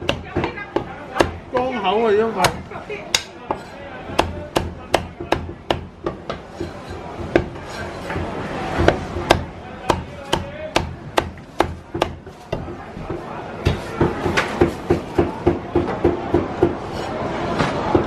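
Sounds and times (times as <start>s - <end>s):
cleaver chopping on wooden block: 0.0s - 1.8s, 2.4s - 16.8s.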